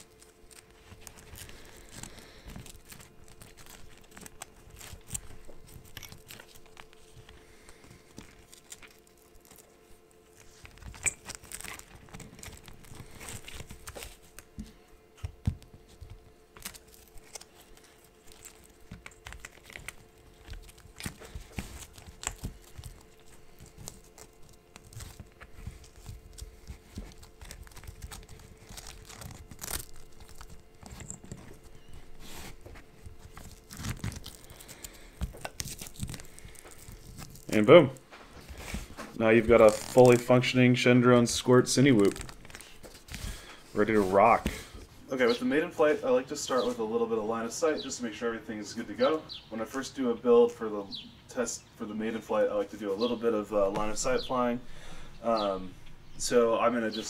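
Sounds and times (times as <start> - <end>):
strap rubbing and crinkling: 0.0 - 47.8.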